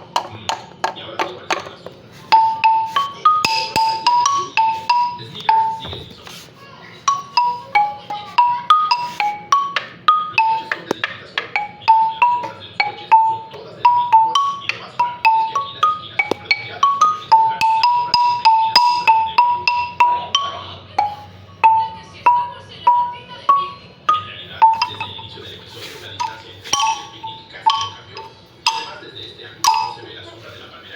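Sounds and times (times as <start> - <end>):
marimba melody: 2.1 - 30.9.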